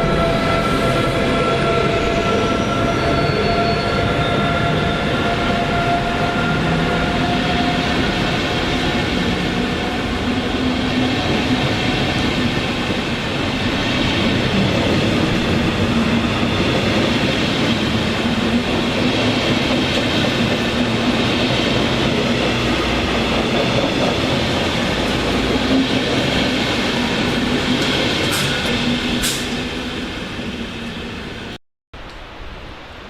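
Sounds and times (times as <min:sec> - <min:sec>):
train rolling past: 0:00.0 - 0:31.6.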